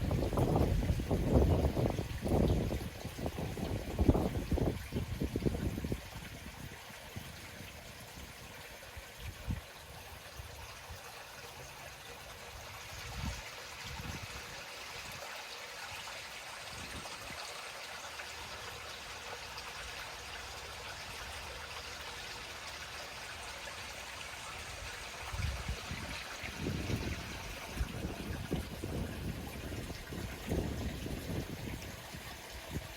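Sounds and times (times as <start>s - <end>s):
lake water lapping: 0.0s - 32.9s.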